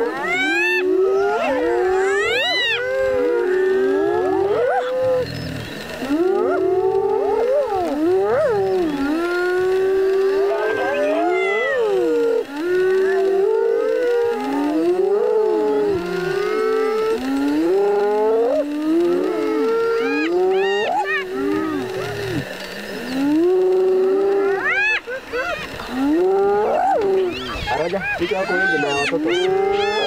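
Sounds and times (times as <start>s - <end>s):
hyenas calling: 0.0s - 30.0s.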